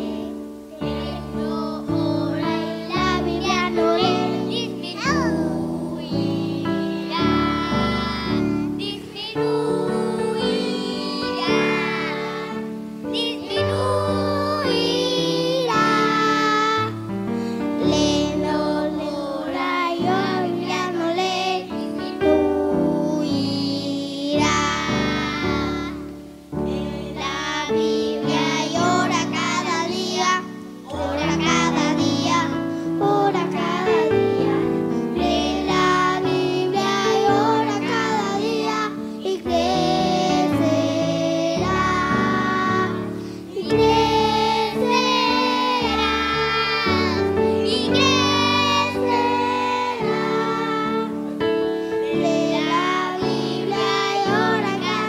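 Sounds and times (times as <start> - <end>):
children singing: 0.0 - 17.0, 17.8 - 55.0
instrumental accompaniment: 0.0 - 23.6, 24.3 - 55.0.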